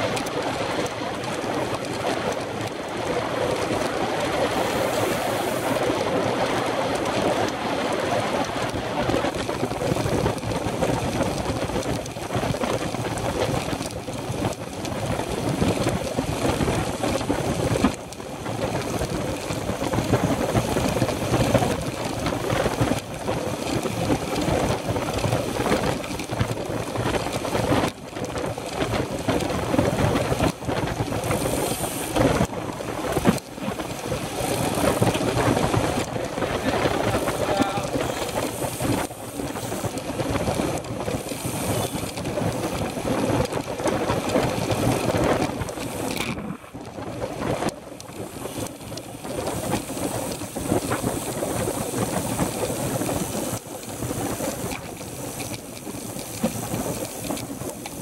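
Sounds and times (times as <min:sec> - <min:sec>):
road noise: 0:00.0 - 0:58.0
wind rushing on microphone: 0:00.0 - 0:58.0.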